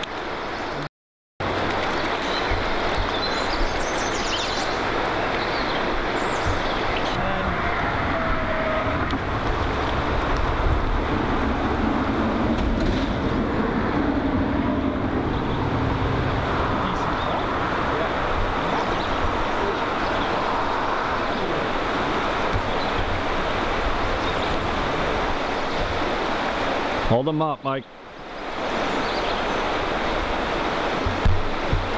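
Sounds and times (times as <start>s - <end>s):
flowing river water: 0.0s - 31.9s.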